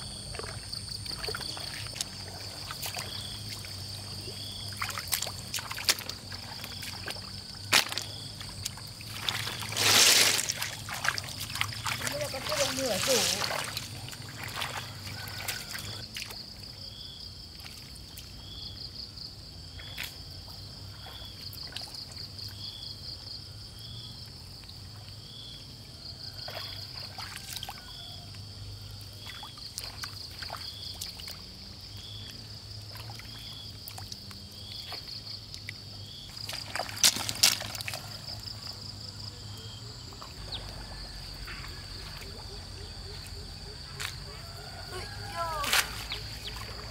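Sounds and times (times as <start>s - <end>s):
muddy water sloshing and splashing: 0.0s - 23.3s, 24.2s - 46.9s
high insect trill: 0.0s - 46.9s.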